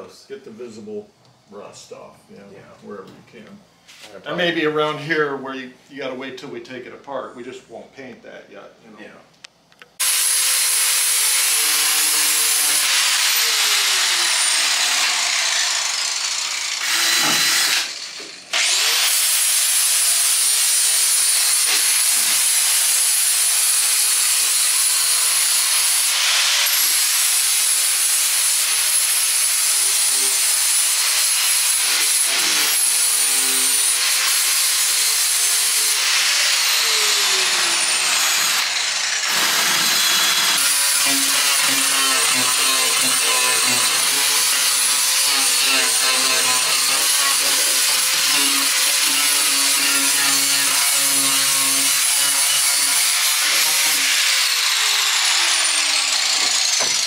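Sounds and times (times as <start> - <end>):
angle grinder grinding metal: 10.0 - 57.0.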